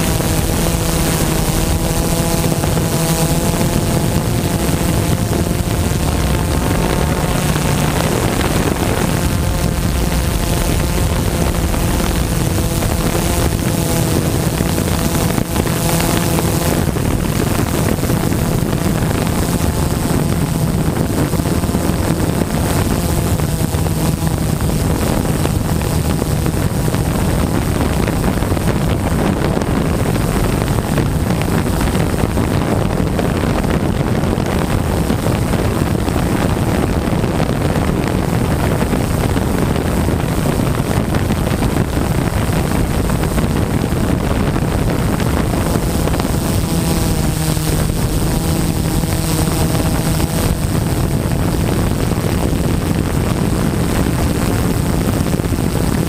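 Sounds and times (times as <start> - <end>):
drone motors and propellers: 0.0 - 56.0
wind rushing across microphone: 0.0 - 56.0.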